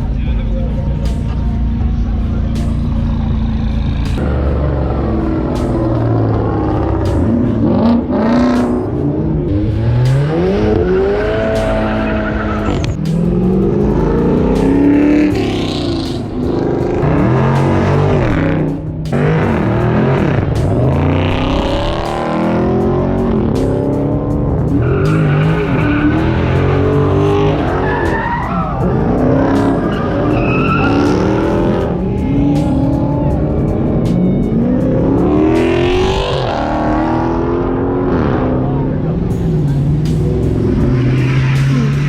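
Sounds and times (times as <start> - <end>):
car engine revving hard: 0.0 - 42.0
tires spinning and squealing: 0.0 - 42.0.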